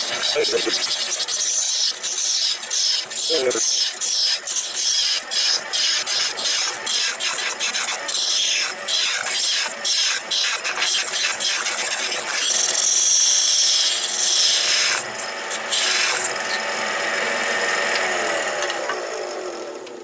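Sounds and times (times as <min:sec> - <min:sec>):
lathe tool scraping wood: 0:00.0 - 0:19.4
faint lathe whine: 0:00.0 - 0:20.0.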